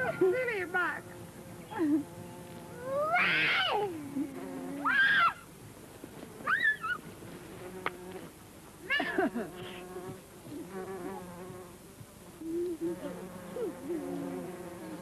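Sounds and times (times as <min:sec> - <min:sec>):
insect buzzing: 0:00.0 - 0:15.0.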